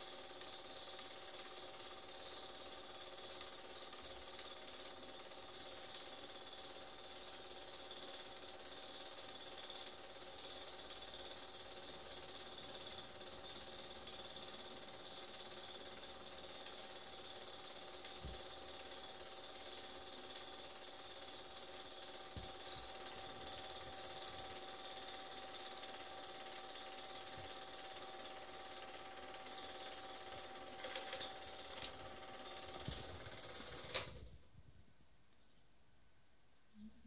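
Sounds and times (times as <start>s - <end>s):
loud mechanical clicks: 0.0s - 34.4s
film projector clattering: 0.0s - 34.5s
projector whine: 0.0s - 34.9s.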